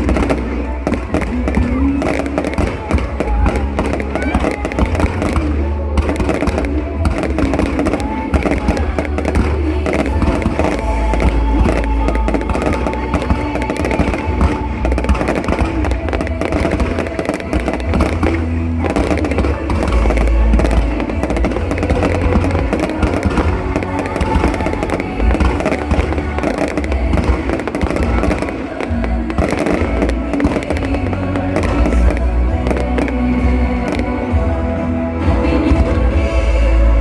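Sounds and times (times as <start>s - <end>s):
fireworks bangs: 0.0s - 34.8s
loud music: 0.0s - 37.0s.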